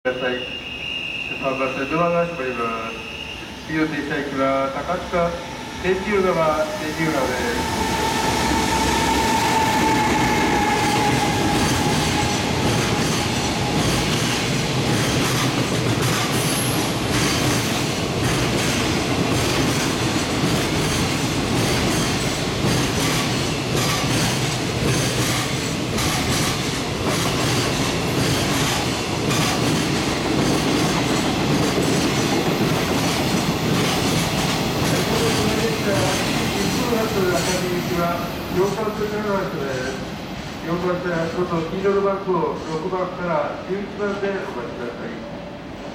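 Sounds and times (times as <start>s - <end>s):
electric locomotive whine: 0.1s - 42.0s.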